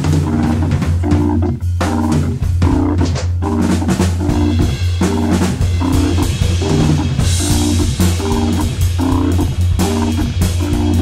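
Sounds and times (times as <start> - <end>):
drum kit groove: 0.0 - 11.0
jazz-funk organ trio music: 0.0 - 11.0
low bass line: 0.0 - 11.0
organ chord stabs: 0.0 - 11.0.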